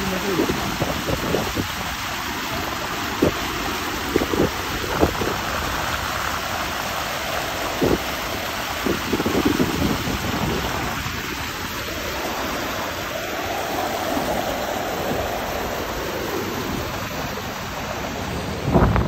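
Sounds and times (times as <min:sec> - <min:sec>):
wind buffeting microphone: 0:00.0 - 0:06.9, 0:07.5 - 0:12.8, 0:13.4 - 0:19.0
small waves splashing over rocks: 0:00.0 - 0:19.0.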